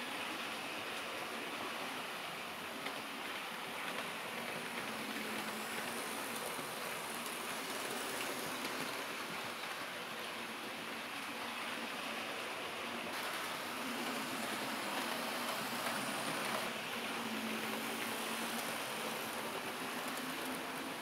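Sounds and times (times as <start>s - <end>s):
model trains rolling hiss: 0.0s - 21.0s.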